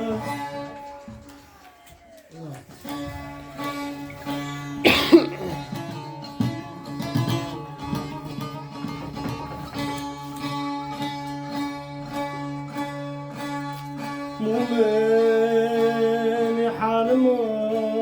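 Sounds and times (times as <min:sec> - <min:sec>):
plucked string instrument: 0:00.0 - 0:18.0.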